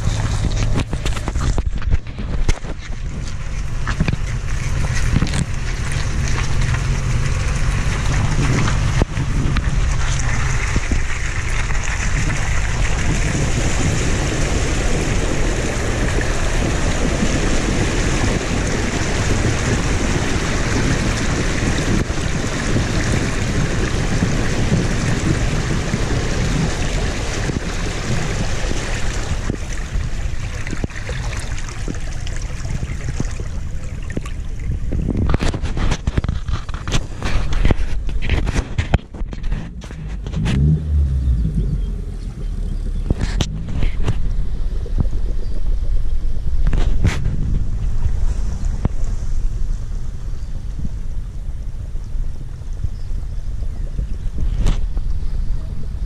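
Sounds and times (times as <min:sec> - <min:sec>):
water rushing and splashing: 0:00.0 - 0:56.0
wind rumble on microphone: 0:00.0 - 0:56.0.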